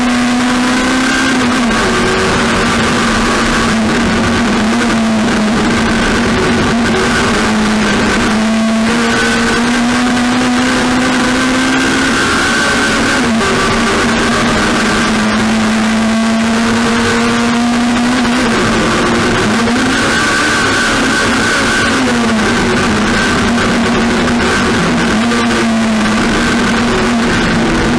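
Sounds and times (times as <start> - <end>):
race car engine at high revs: 0.0 - 27.9
wind and road noise: 0.0 - 27.9.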